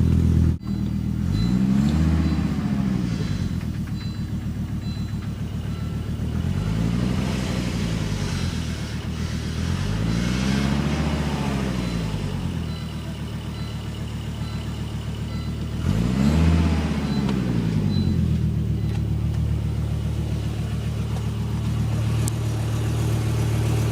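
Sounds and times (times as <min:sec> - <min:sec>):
car engine idling and revving: 0:00.0 - 0:23.9.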